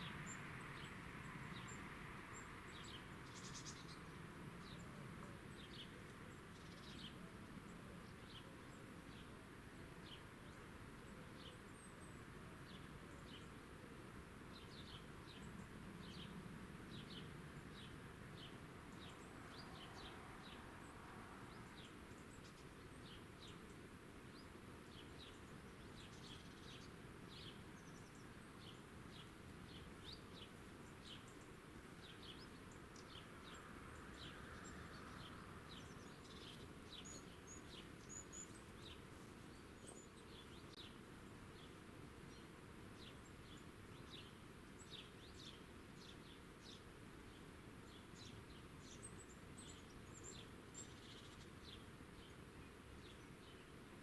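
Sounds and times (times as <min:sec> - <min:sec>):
low steady hiss: 0:00.0 - 0:54.0
small birds chirping: 0:00.0 - 0:54.0.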